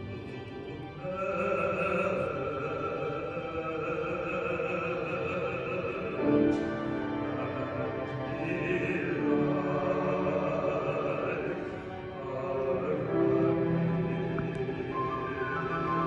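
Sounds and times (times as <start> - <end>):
operatic singing: 0.0 - 16.0.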